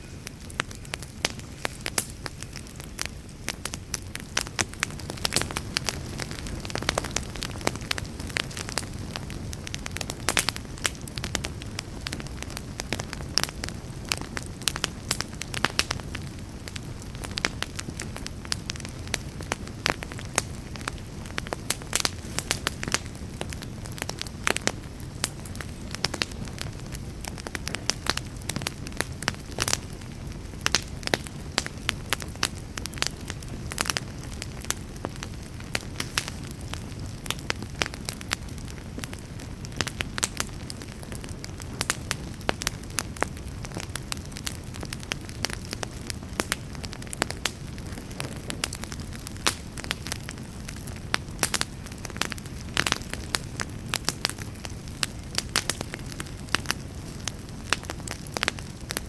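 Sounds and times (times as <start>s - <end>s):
campfire crackling and popping: 0.0s - 59.0s
low rush of burning fire: 0.0s - 59.0s.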